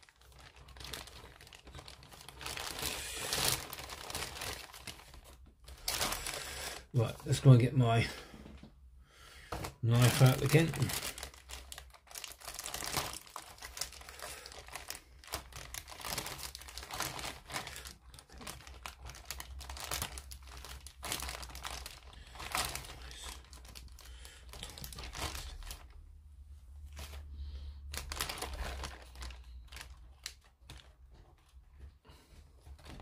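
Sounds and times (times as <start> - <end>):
plastic bag crinkling and rustling: 0.0 - 8.6, 9.5 - 26.1, 26.8 - 33.0.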